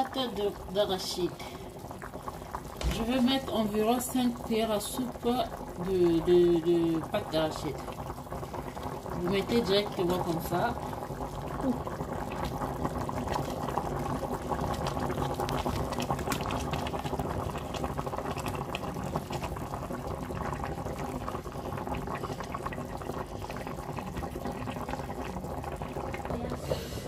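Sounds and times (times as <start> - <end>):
stew bubbling with small pops: 0.0 - 26.7.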